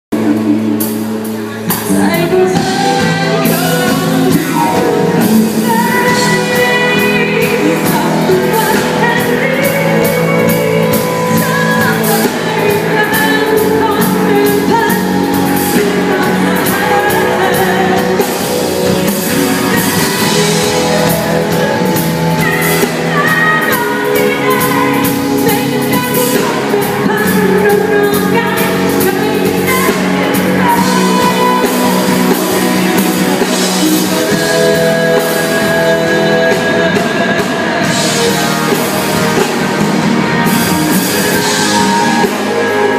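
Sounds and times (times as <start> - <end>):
pop band with drums: 0.1 - 42.9
woman singing: 0.2 - 39.6.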